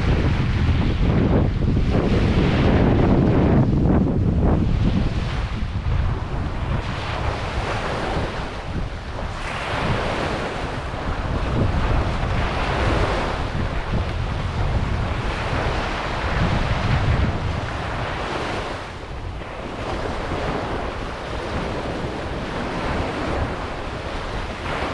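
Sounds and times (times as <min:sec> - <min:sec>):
ocean waves washing onto beach: 0:00.0 - 0:24.9
wind buffeting microphone: 0:00.0 - 0:24.9.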